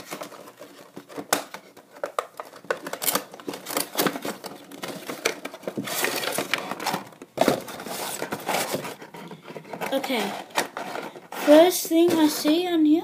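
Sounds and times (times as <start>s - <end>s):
plastic rustling: 0.0s - 13.0s.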